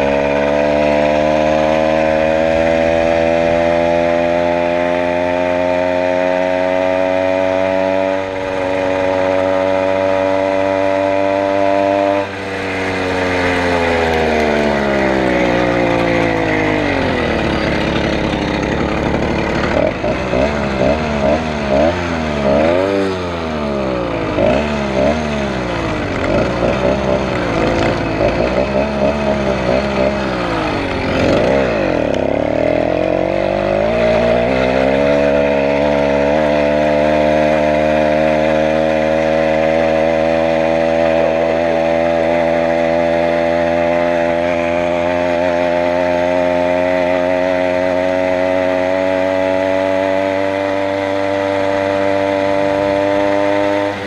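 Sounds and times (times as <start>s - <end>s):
motorized bicycle engine: 0.0s - 54.0s.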